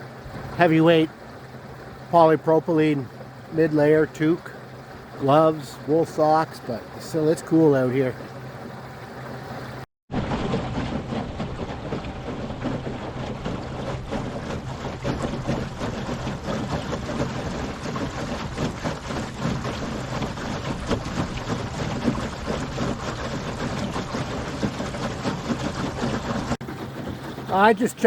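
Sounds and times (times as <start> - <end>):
electric outboard motor hum: 0.0 - 28.0
water splashing along boat hull: 0.0 - 28.0.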